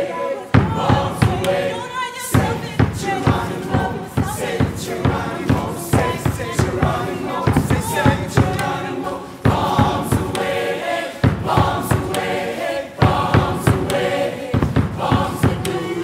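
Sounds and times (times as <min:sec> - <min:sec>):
mixed choir singing: 0:00.0 - 0:16.0
steady percussive beat: 0:00.0 - 0:16.0.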